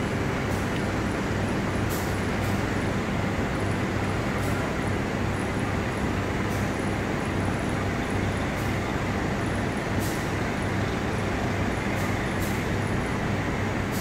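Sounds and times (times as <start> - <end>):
diesel trains humming: 0.0 - 14.0.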